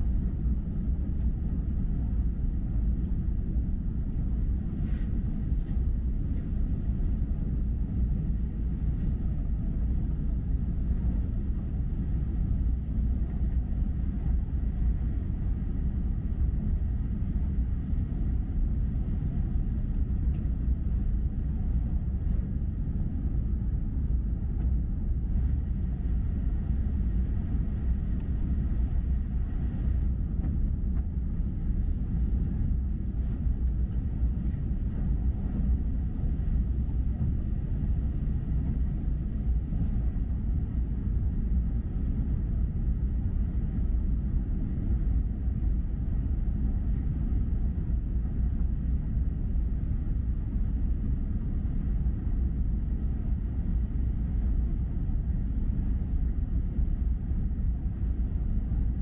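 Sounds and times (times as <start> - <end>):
train rumbling along track: 0.0 - 51.0.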